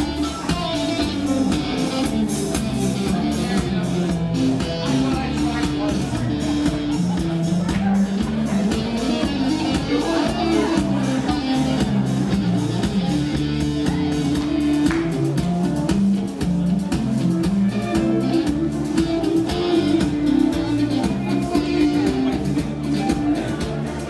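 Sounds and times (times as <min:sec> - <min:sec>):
folk dance band playing: 0:00.0 - 0:24.0
guitar: 0:00.0 - 0:24.0.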